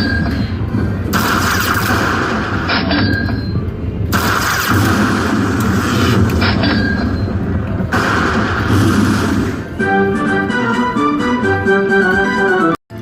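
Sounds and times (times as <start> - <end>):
slot machine game noise: 0.0 - 13.0.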